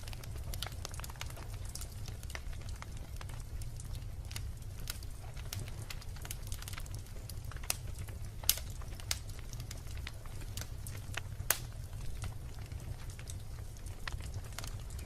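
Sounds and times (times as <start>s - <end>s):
fire low rumble: 0.0s - 15.0s
logs crackling and popping: 0.0s - 15.0s.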